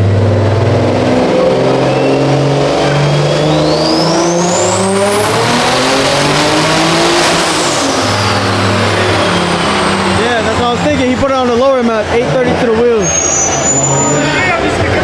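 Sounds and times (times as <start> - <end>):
car engine revving with whine: 0.0 - 15.0.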